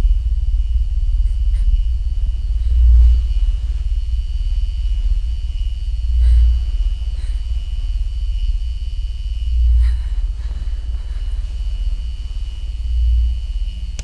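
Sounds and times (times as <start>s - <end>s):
low rumbling horror drone: 0.0s - 14.0s.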